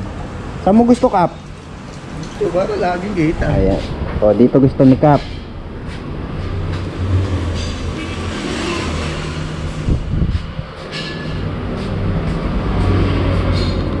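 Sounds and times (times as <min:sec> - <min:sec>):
vehicle engine droning: 0:01.1 - 0:14.0.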